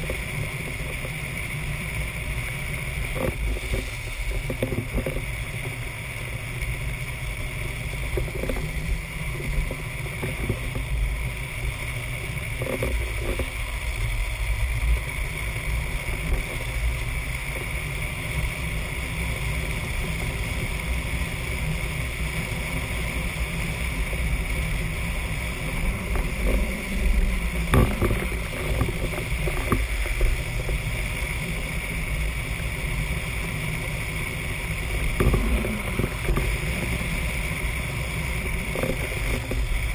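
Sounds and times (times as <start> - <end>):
wheels rumbling on asphalt: 0.0 - 39.9.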